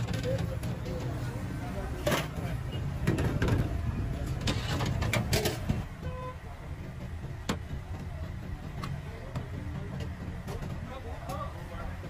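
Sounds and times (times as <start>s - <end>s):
low rumble of busy kitchen: 0.0s - 12.0s.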